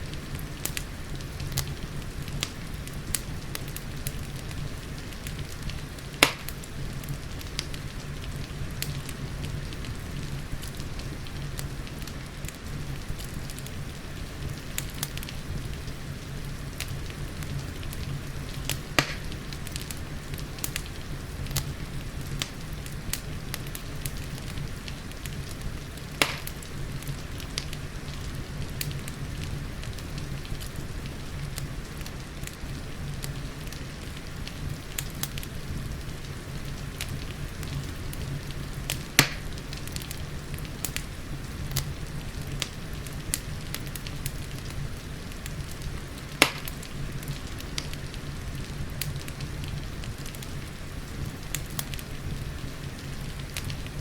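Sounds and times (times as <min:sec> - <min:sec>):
fireplace crackling: 0:00.0 - 0:54.0
loud fire pops: 0:00.0 - 0:54.0
rain hiss: 0:00.0 - 0:54.0.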